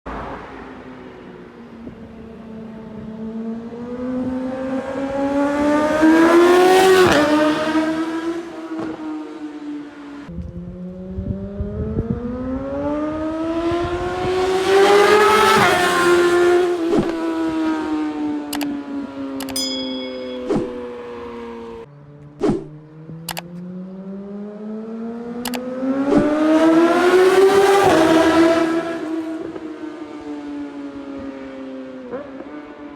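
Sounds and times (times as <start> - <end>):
motorcycle passing by: 0.1 - 19.5, 20.2 - 32.9.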